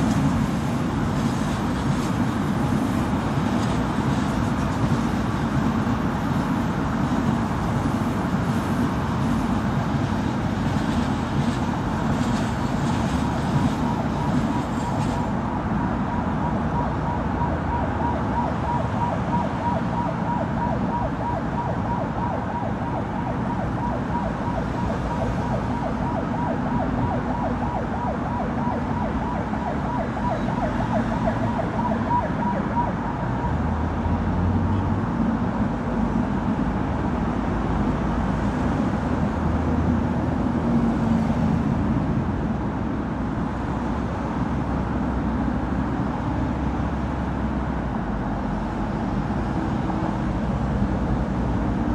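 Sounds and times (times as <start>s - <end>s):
dense traffic passing: 0.0s - 51.9s.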